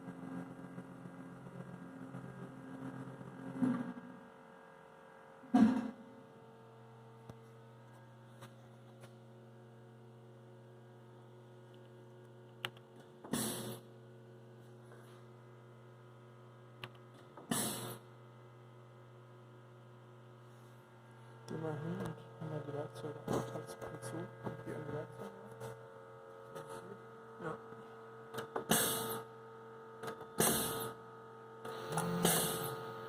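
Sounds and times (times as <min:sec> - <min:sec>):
machine table humming: 0:00.0 - 0:33.0.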